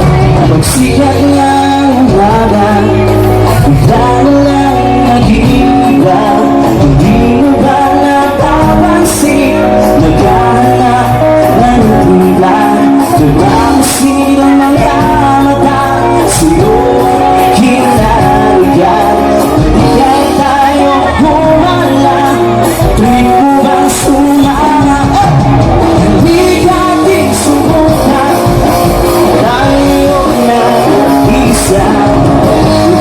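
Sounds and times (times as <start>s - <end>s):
loud pop music with singing: 0.0s - 33.0s.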